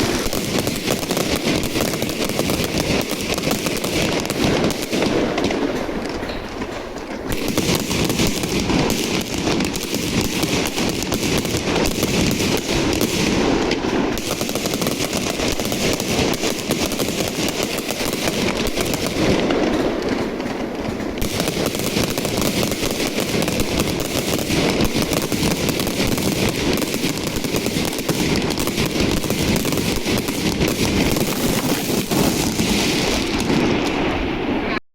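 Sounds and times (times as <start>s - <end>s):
fireworks bangs and crackling: 0.0s - 34.8s.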